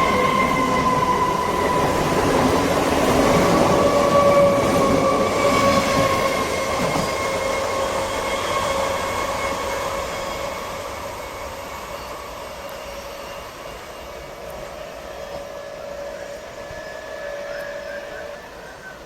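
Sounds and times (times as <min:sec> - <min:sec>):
electric train rumbling: 0:00.0 - 0:19.0
steady train whine: 0:00.0 - 0:19.0.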